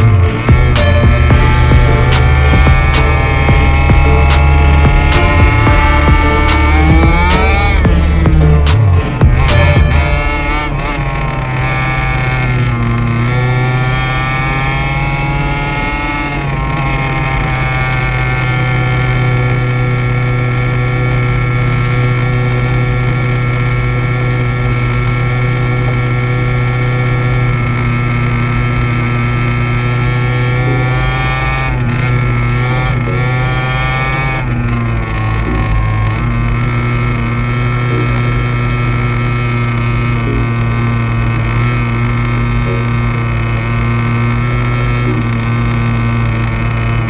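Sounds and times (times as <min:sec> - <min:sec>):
two-stroke engine running: 0:00.0 - 0:47.0.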